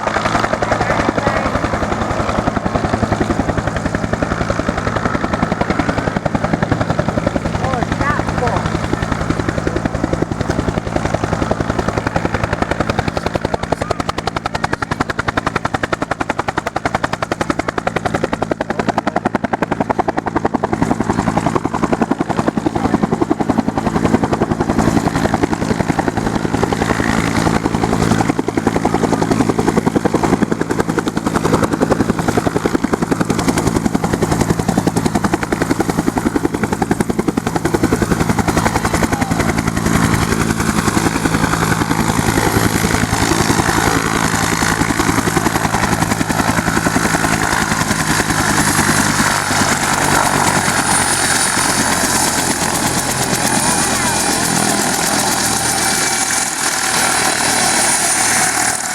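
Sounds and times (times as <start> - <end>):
helicopter engine hum: 0.0 - 58.9
helicopter rotor beating: 0.0 - 58.9.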